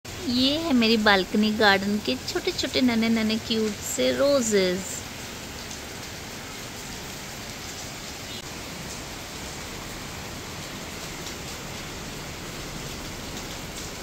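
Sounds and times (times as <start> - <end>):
heavy rain: 0.1 - 14.0.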